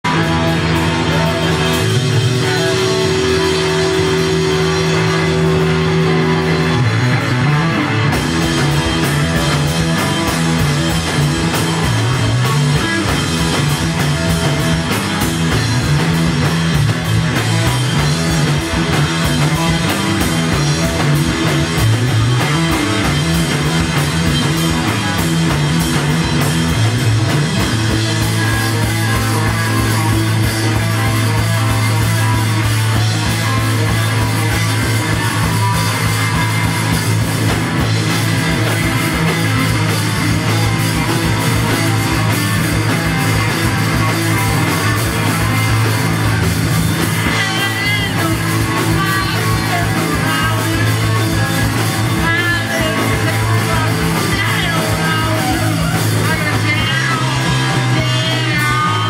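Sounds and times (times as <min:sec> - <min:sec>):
drum kit fast beat: 0:00.0 - 0:59.0
live rock band playing: 0:00.0 - 0:59.0.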